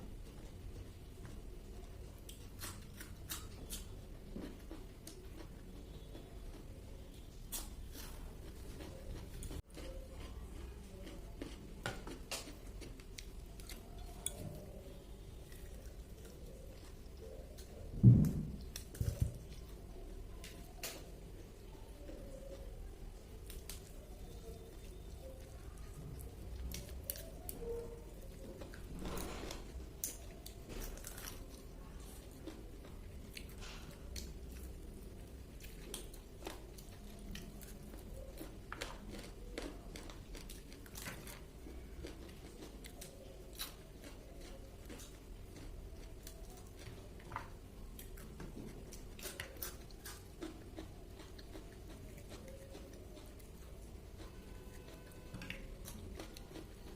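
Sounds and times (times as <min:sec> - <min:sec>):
person chewing crispy food: 0:00.2 - 0:17.9, 0:18.6 - 0:56.9.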